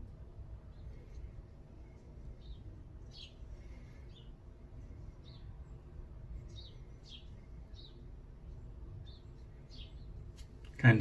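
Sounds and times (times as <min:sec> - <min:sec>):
low room hum: 0:00.0 - 0:11.0
small bird chirping: 0:00.6 - 0:11.0.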